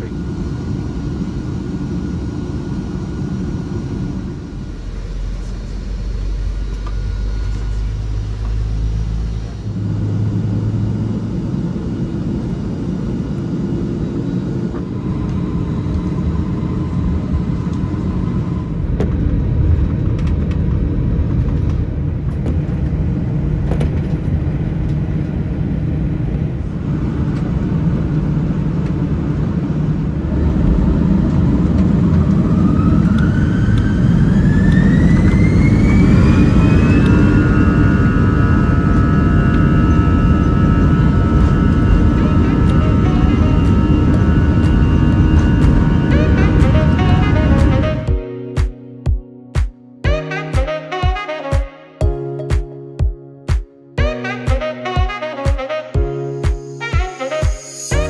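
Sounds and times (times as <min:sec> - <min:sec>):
airliner rumbling in cabin: 0:00.0 - 0:48.2.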